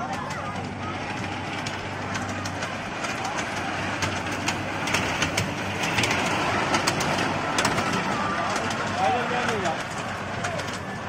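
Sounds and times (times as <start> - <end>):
toy train motor hum: 0.0 - 11.0
wheels clicking and rattling: 0.0 - 11.0.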